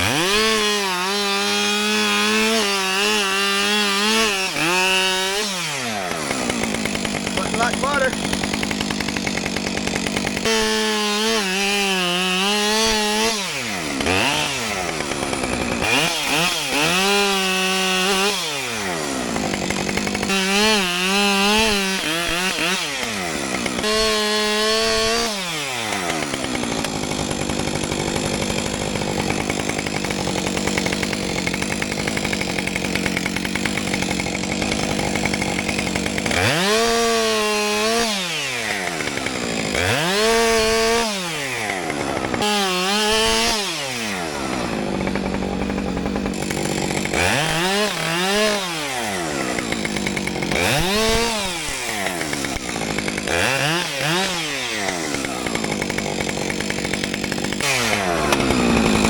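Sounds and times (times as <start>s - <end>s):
chainsaw cutting timber: 0.0s - 59.0s.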